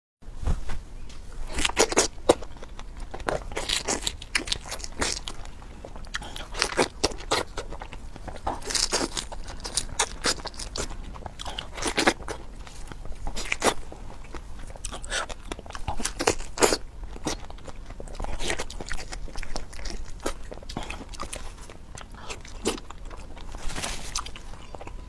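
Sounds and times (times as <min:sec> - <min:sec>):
chewing fresh fruit: 0:01.4 - 0:25.0.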